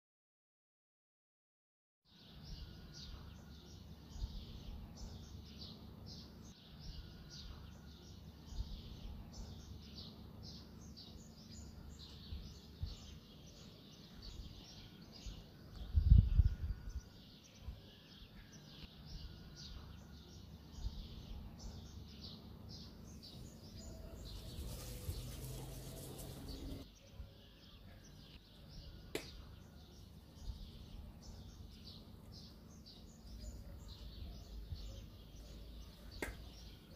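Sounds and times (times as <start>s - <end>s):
birds chirping: 2.1s - 36.9s.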